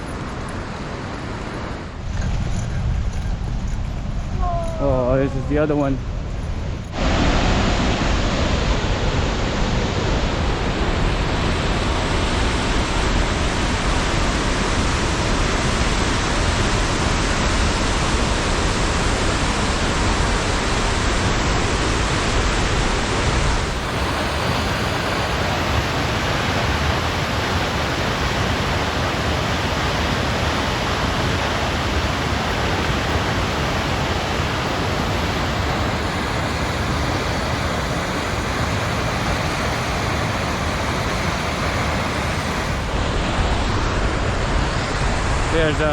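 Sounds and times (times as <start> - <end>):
waterfall rushing: 6.9 - 45.9.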